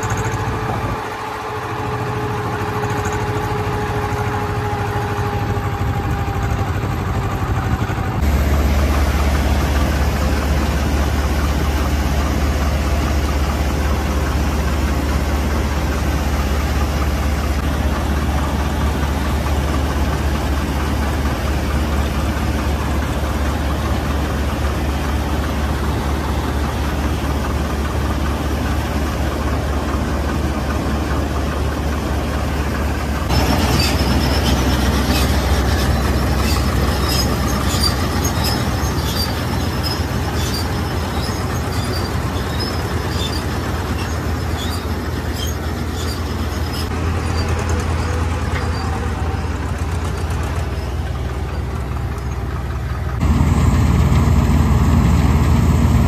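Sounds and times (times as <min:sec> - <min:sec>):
auger unloading grain: 0:00.0 - 0:56.0
diesel engines droning: 0:00.0 - 0:56.0.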